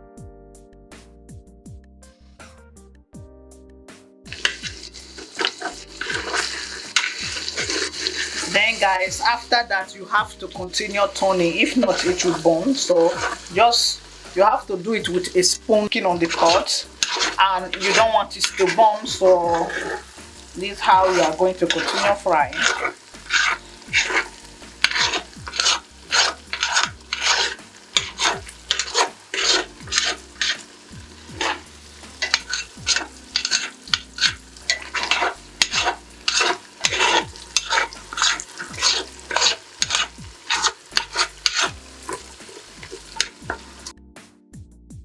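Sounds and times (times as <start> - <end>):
spoon scraping a pot: 4.3 - 9.5, 10.2 - 43.9
paste sizzling in oil: 4.3 - 43.9.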